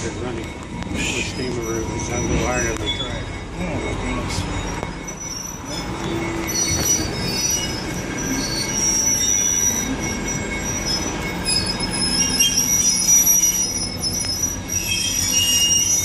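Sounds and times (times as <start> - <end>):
train rumbling on track: 0.0 - 16.0
train wheels squealing: 0.0 - 16.0.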